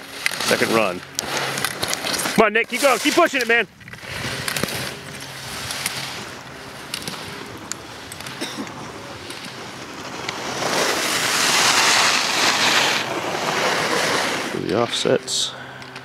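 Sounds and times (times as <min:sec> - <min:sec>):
skis carving on snow: 0:00.0 - 0:15.5.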